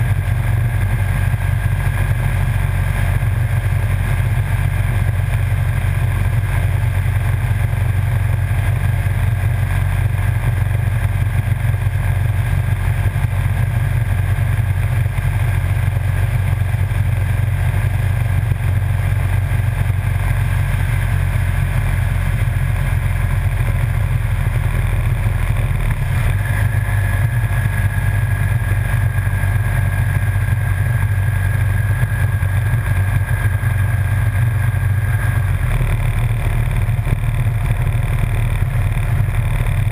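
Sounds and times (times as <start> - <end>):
motorcycle engine and wind rumble: 0.0 - 39.9.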